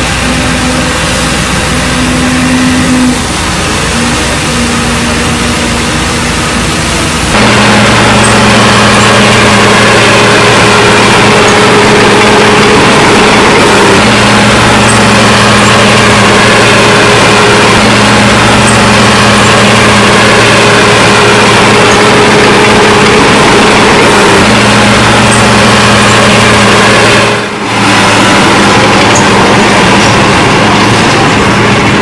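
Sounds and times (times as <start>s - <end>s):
heavy machine engine running: 0.0s - 32.0s.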